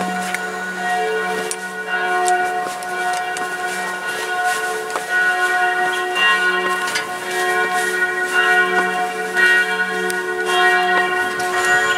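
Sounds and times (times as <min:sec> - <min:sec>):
church bells ringing: 0:00.0 - 0:11.9.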